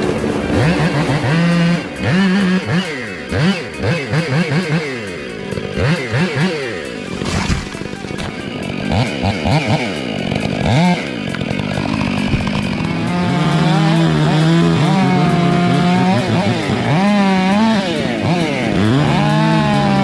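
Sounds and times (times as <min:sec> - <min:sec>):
chainsaw engine revving: 0:00.0 - 0:20.0.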